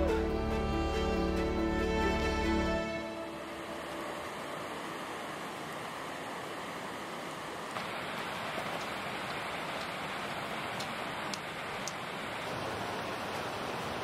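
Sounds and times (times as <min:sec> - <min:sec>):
mountain creek rushing: 0:00.0 - 0:14.0.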